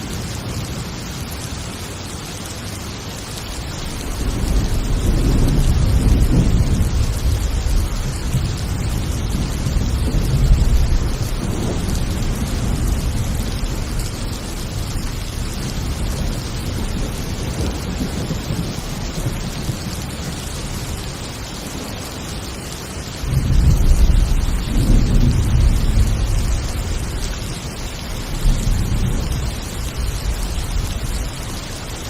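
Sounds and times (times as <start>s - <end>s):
heavy rain hissing: 0.0s - 32.0s
rolling thunder: 3.6s - 21.4s, 23.2s - 31.8s.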